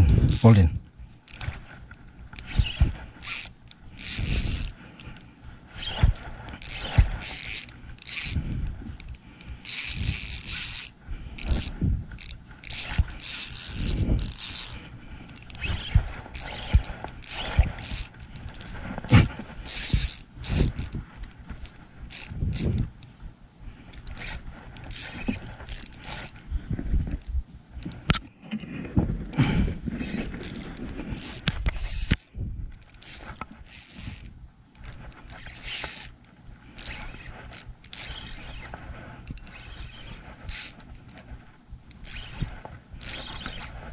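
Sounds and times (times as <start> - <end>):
fishing reel clicking and whirring: 0.0 - 23.1, 23.9 - 26.4, 27.1 - 28.2, 29.9 - 43.9.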